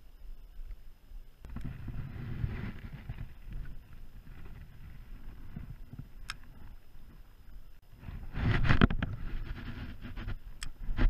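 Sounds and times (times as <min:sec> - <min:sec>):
wind and water rumble: 0:00.9 - 0:11.0
fishing rod and reel rustling: 0:01.5 - 0:11.0.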